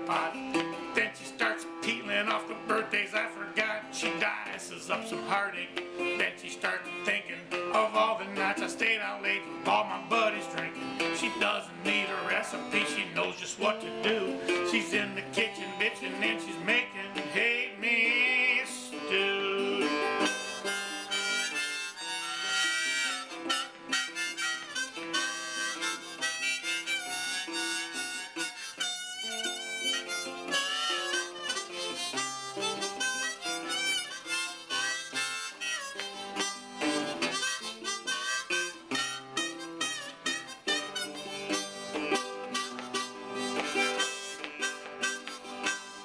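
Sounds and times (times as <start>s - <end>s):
blues harmonica: 0.0s - 46.0s
picked resonator guitar: 0.0s - 46.0s.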